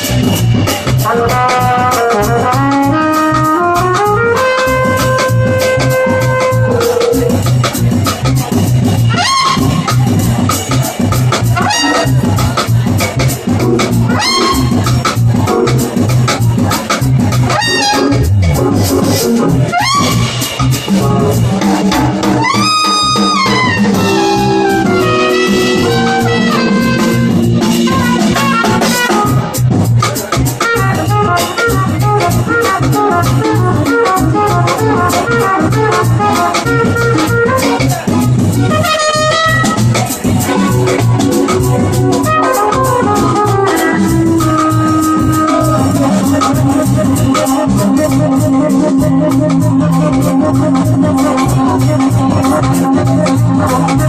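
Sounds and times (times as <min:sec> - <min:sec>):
drum kit beat: 0:00.0 - 0:54.0
trumpet playing lead line: 0:00.0 - 0:54.0.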